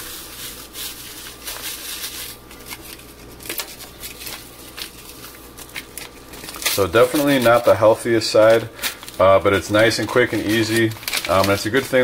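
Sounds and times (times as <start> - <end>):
paper packet crinkling: 0.0 - 12.0.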